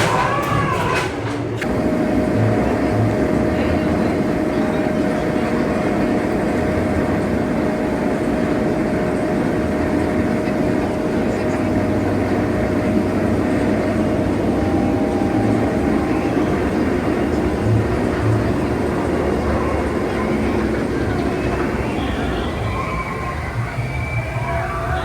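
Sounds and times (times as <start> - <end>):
roller coaster rumbling on track: 0.0 - 25.0.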